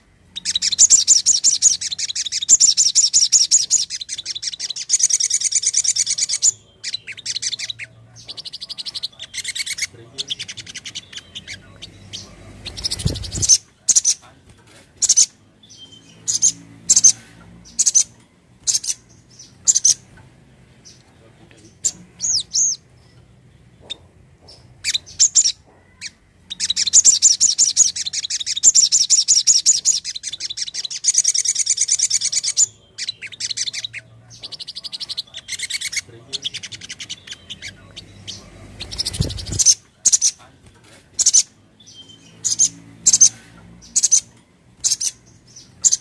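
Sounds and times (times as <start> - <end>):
songbird chirping and trilling: 0.0 - 46.0.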